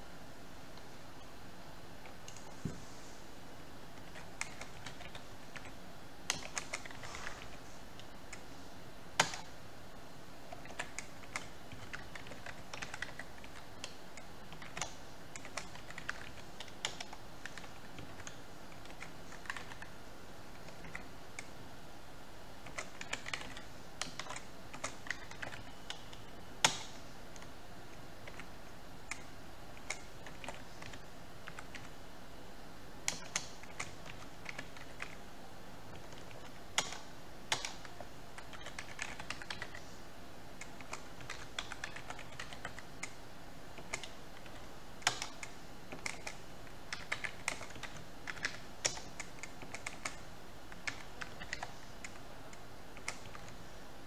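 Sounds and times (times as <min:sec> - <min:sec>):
faint steady hiss: 0:00.0 - 0:54.0
computer keyboard typing: 0:04.0 - 0:08.5, 0:09.2 - 0:09.6, 0:10.5 - 0:21.6, 0:22.6 - 0:27.5, 0:28.2 - 0:32.0, 0:33.0 - 0:35.2, 0:35.9 - 0:39.9, 0:40.6 - 0:53.6.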